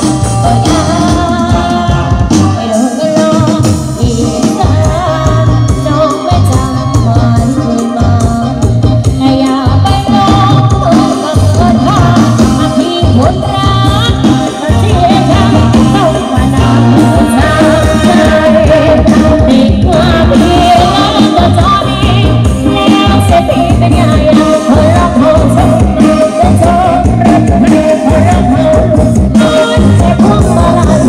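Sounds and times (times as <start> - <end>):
loud dance music with singer: 0.0 - 31.0.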